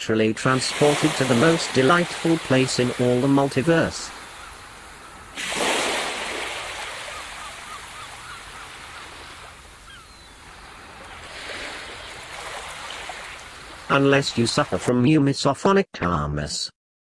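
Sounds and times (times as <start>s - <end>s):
surf washing: 0.0s - 14.9s
ocean wave breaking: 0.4s - 14.8s.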